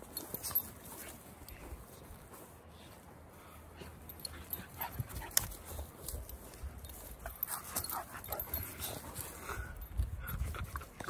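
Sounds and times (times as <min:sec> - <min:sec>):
rustles on grass: 0:00.0 - 0:11.0.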